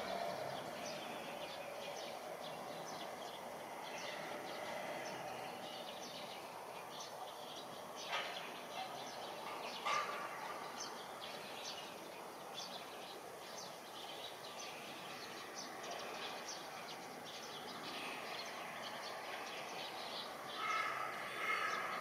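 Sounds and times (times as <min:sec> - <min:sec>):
bird chirping: 0:00.0 - 0:22.0
outdoor background noise: 0:00.0 - 0:22.0.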